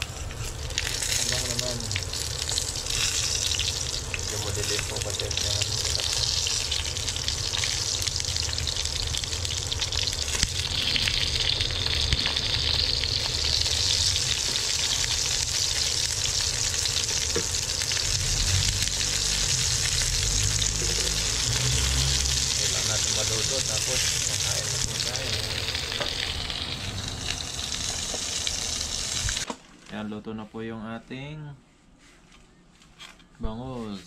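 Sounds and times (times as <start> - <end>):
fish and eggplant sizzling: 0.0 - 29.5
low steady rumble: 0.0 - 29.5.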